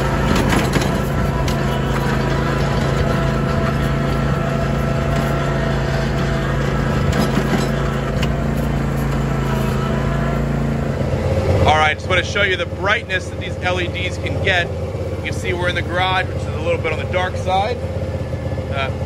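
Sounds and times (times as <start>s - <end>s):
mower engine humming: 0.0s - 19.0s.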